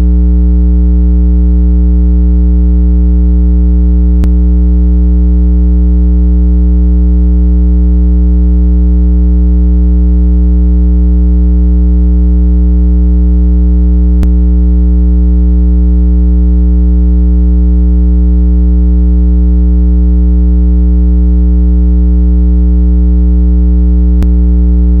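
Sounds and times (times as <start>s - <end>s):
steady low electronic hum: 0.0s - 25.0s.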